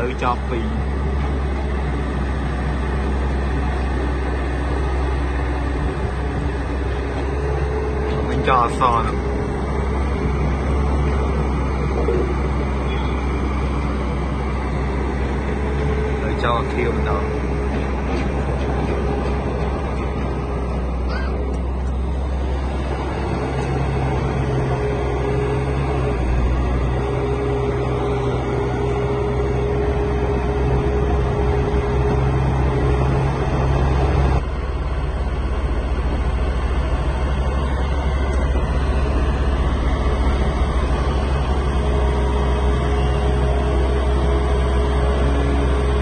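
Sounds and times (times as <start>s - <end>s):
diesel machinery drone: 0.0s - 46.0s
held whine: 0.0s - 46.0s.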